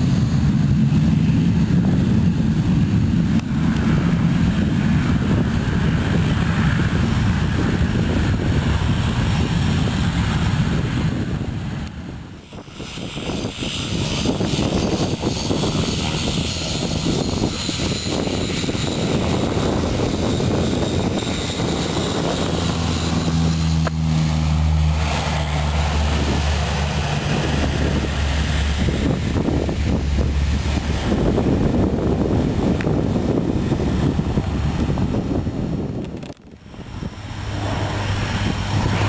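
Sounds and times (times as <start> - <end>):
propeller aircraft engine running: 0.0 - 39.0.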